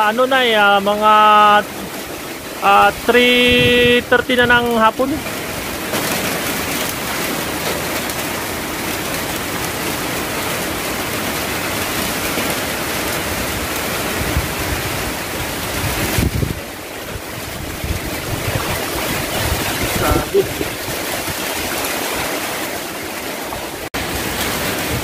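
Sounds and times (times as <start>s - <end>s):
heavy rain: 0.0s - 25.0s
strong wind gusts: 1.8s - 5.9s, 8.3s - 25.0s.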